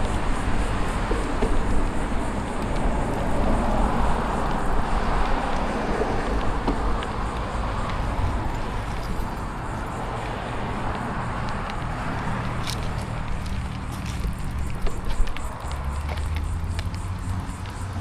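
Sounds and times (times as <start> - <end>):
bicycle tyre road noise: 0.0 - 18.0
wind on microphone: 0.0 - 18.0.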